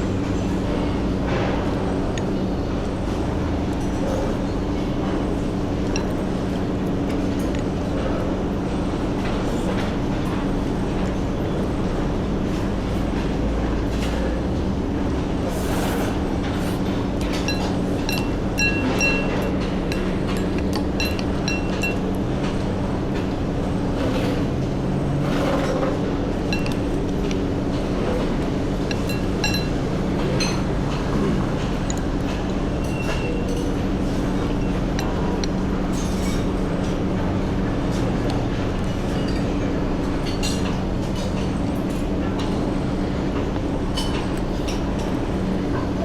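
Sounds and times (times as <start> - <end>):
loud mechanical hum: 0.0 - 46.0.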